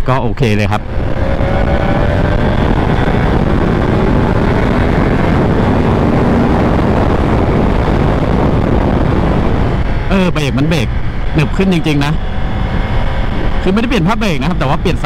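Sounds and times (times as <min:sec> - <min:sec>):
wind rushing over microphone: 0:00.0 - 0:15.0
faint motorcycle engine: 0:00.1 - 0:15.0.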